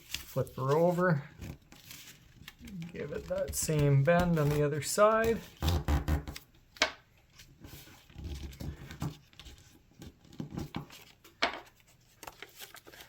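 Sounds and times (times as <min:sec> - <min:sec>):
paper rustling and crinkling: 0:00.0 - 0:05.7, 0:07.2 - 0:13.0.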